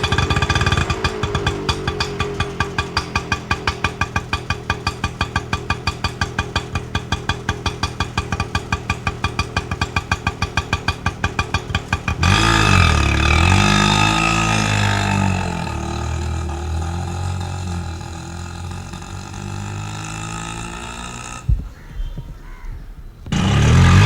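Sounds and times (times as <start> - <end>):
auto rickshaw engine idling: 0.0 - 24.0.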